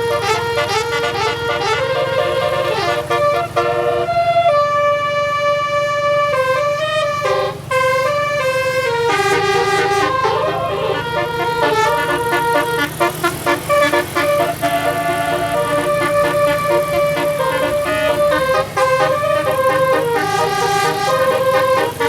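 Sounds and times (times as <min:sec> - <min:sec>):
bus horn playing a tune: 0:00.0 - 0:22.0
low steady rumble: 0:00.0 - 0:22.0.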